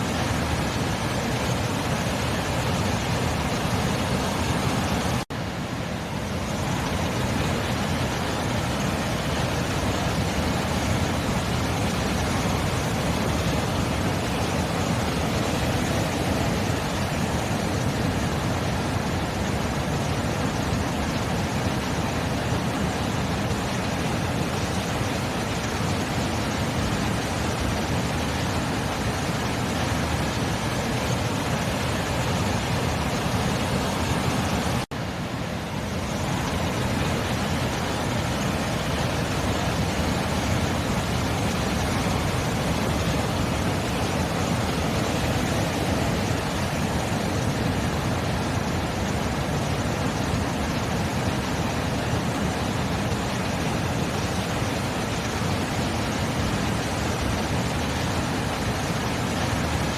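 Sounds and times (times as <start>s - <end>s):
sea surf rushing: 0.0s - 59.9s.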